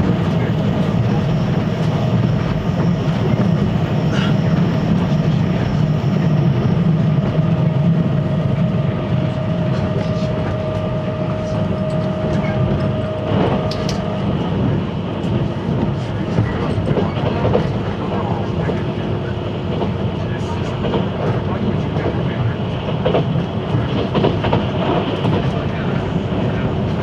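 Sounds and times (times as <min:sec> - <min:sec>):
clickety-clack over rail joints: 0:00.0 - 0:06.3, 0:09.7 - 0:27.0
train wheels rumbling on rail: 0:00.0 - 0:27.0.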